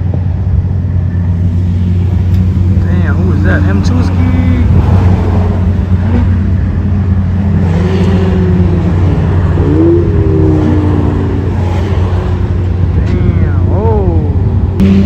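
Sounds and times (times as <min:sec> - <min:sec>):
race car engines at speed: 0:00.0 - 0:15.0
steady low rumble: 0:00.0 - 0:15.0
car accelerating past: 0:01.0 - 0:13.7.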